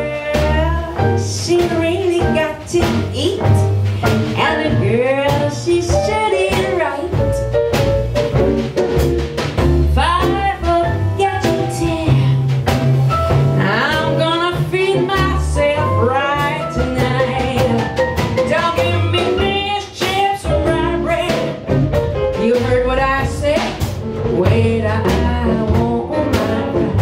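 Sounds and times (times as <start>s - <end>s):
bending lead melody: 0.0s - 27.0s
jazz band playing: 0.0s - 27.0s.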